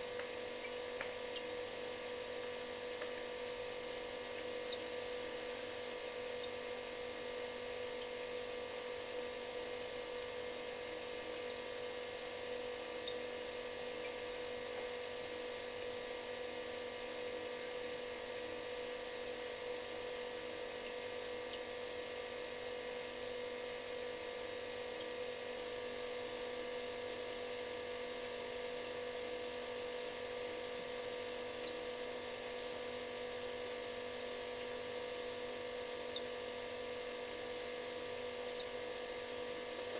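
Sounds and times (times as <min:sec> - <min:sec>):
refrigerator humming: 0:00.0 - 0:39.9.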